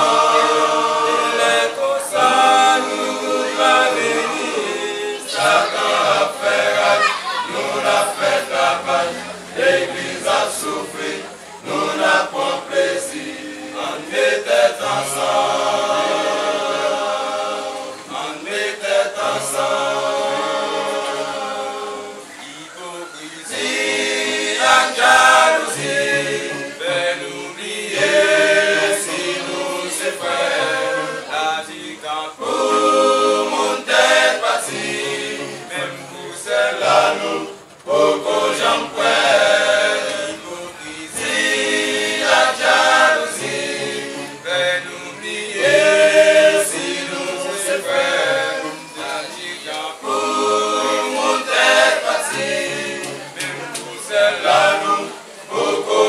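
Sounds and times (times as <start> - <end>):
men's vocal group singing: 0.0 - 56.0.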